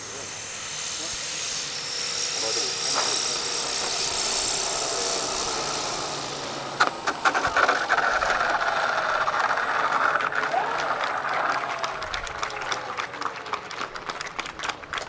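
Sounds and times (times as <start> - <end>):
rattling engine-like sound: 0.0 - 15.0.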